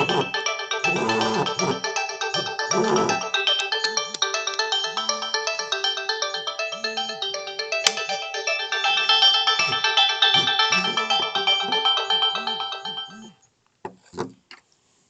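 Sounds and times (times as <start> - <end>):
phone ringtone melody: 0.0 - 13.4.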